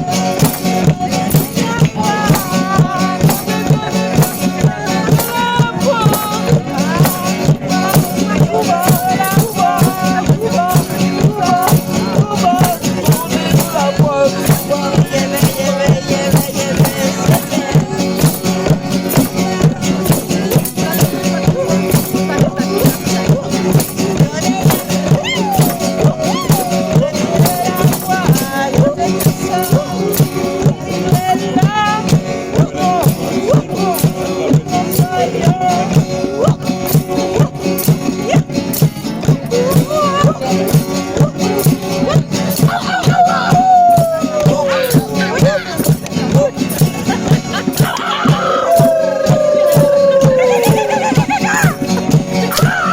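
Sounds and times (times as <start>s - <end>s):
music with steady beat: 0.0s - 52.9s
shaker percussion: 0.0s - 52.9s.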